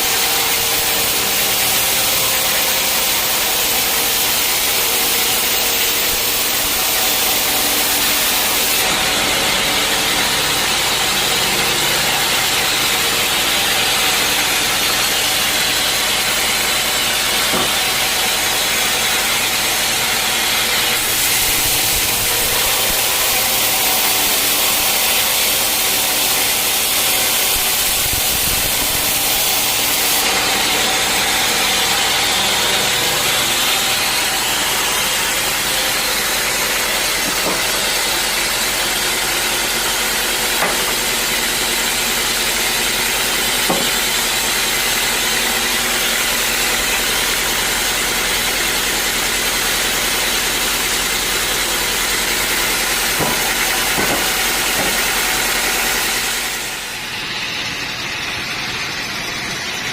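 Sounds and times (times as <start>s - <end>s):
mill motor running: 0.0s - 59.9s
saw blade cutting log: 0.0s - 59.9s.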